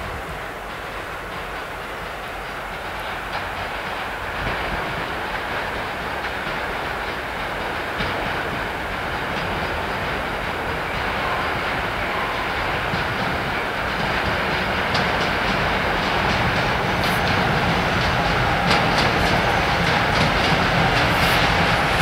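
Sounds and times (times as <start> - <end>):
diesel locomotive engine: 0.0 - 22.0
wheels clacking over rail joints: 0.6 - 22.0.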